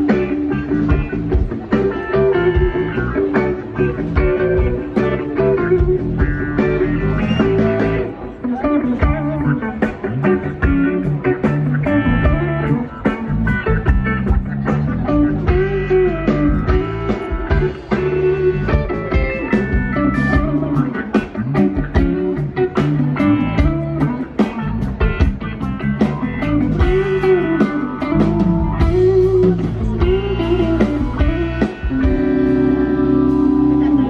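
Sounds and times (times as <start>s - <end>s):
lead guitar: 0.0s - 34.0s
live band music over a pa: 0.0s - 34.0s.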